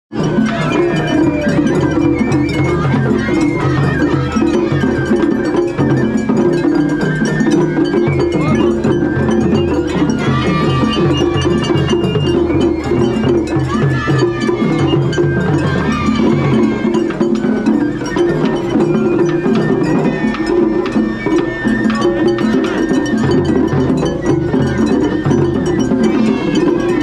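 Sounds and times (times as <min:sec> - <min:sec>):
bamboo flute melody: 0:00.1 - 0:27.0
taiko drums beating: 0:00.1 - 0:27.0.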